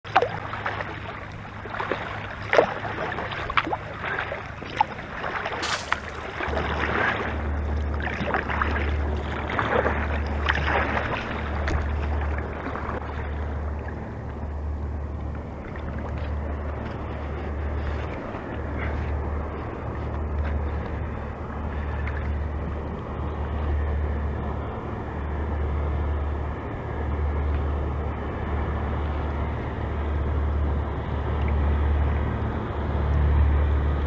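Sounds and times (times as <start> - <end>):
paddle strokes in water: 0.0 - 34.0
waves lapping against hull: 0.0 - 34.0
wind rumble on microphone: 0.0 - 34.0.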